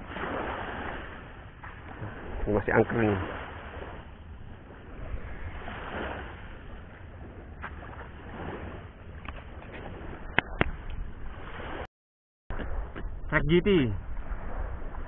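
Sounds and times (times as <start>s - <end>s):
surf: 0.0s - 11.9s, 12.5s - 15.0s
wind: 0.0s - 11.9s, 12.5s - 15.0s.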